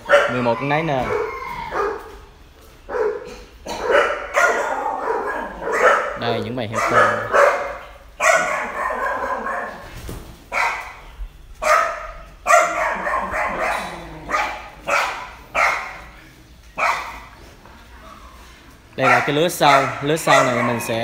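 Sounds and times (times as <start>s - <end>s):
dog barking: 0.0s - 2.2s, 2.9s - 9.9s, 10.5s - 11.0s, 11.6s - 16.2s, 16.8s - 17.4s, 19.0s - 21.0s.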